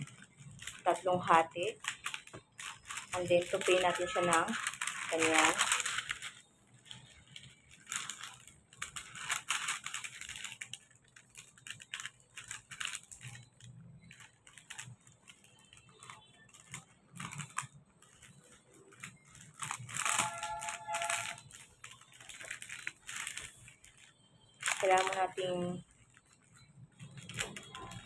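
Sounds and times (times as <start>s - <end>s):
metallic foil crinkling: 0.0s - 28.0s.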